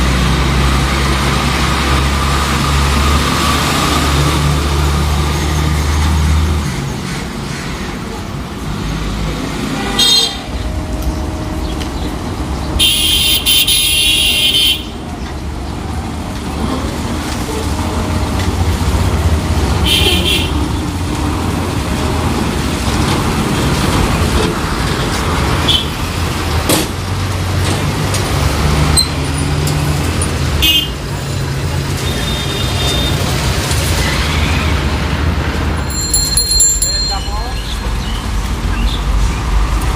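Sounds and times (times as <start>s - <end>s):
heavy truck engine: 0.0s - 36.6s.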